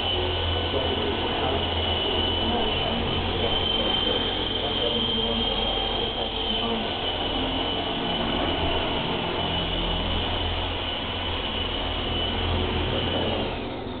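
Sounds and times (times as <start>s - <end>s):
buzzing rotor: 0.0s - 14.0s
toy helicopter motor whine: 0.0s - 14.0s.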